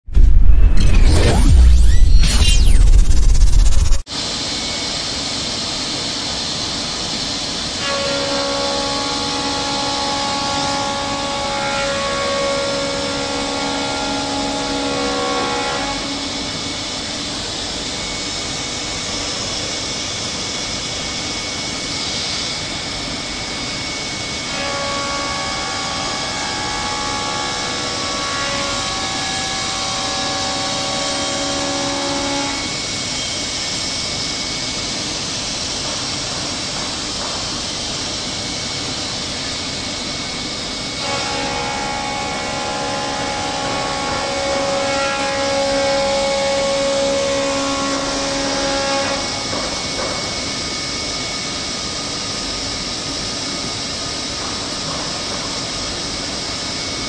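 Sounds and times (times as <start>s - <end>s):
machine saw whine: 0.1s - 57.0s.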